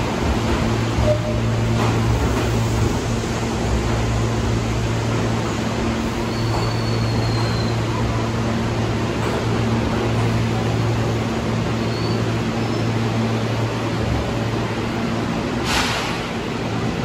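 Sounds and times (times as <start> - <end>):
subway train rushing: 0.0 - 17.0.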